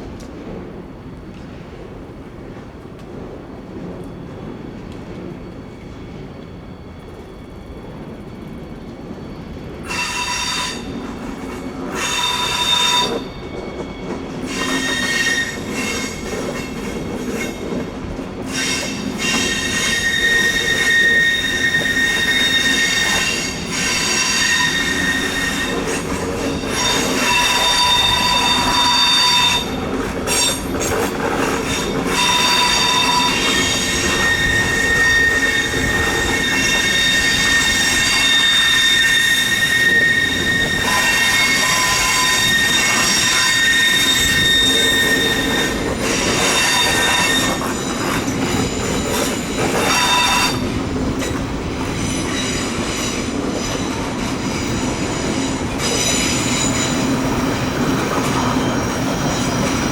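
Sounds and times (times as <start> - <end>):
train rumble: 0.0 - 59.9
train wheels squealing on rails: 3.3 - 59.9.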